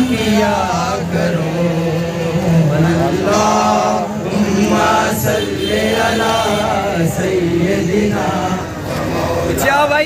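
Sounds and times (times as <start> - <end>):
voices chanting together: 0.0 - 10.0.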